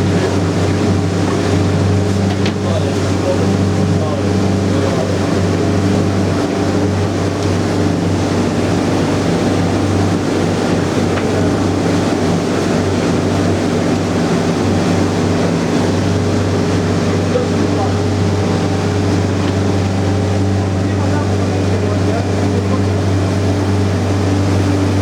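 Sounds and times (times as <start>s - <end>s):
motorboat engine humming: 0.0s - 25.0s
water rushing: 0.0s - 25.0s.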